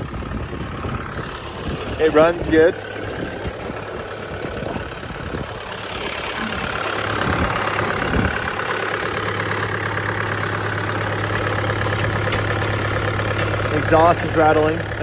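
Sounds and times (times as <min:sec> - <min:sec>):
diesel engine idling: 0:00.0 - 0:15.0
exhaust rattle: 0:00.0 - 0:15.0.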